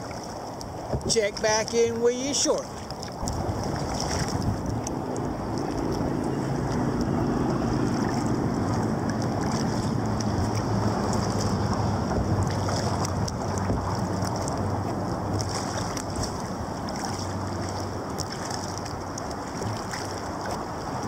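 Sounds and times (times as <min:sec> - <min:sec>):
water moving along kayak hull: 0:00.0 - 0:21.0
wind on microphone: 0:02.7 - 0:21.0
low hum: 0:03.1 - 0:21.0.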